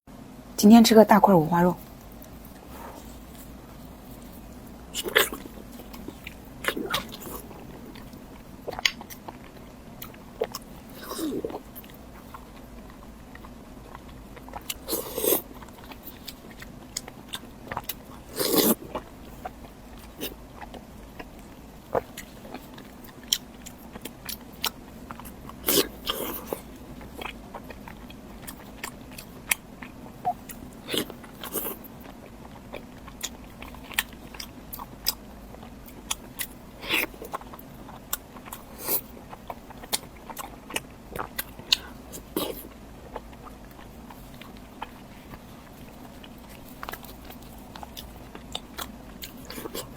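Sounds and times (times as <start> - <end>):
person biting and chewing: 2.2 - 49.9.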